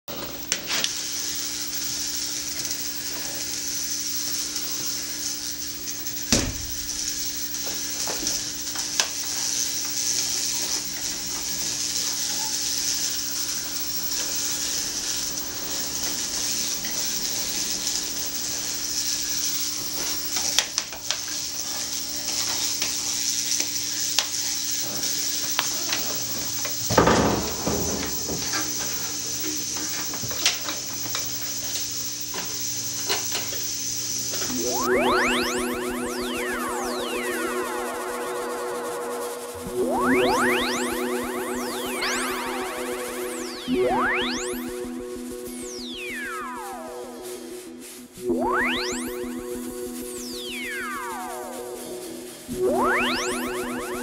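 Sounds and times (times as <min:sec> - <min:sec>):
electrical hum with sizzling hiss: 0:00.1 - 0:54.0
burst of noise: 0:00.8 - 0:54.0.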